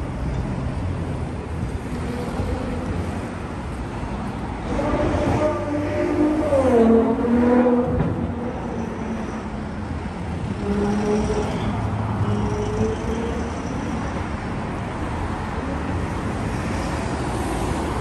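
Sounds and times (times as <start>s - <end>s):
engine hum of traffic: 0.0s - 18.0s.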